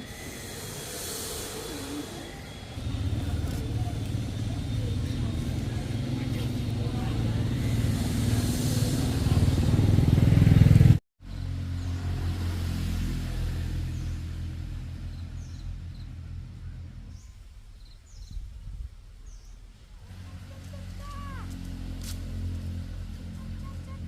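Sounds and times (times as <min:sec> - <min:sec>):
vehicle engine humming: 0:00.0 - 0:17.7, 0:18.8 - 0:24.0.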